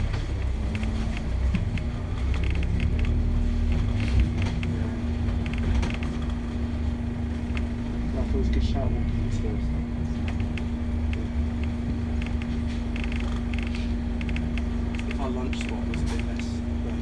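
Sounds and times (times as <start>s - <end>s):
bus engine rumble: 0.0s - 17.0s
road noise: 0.0s - 17.0s.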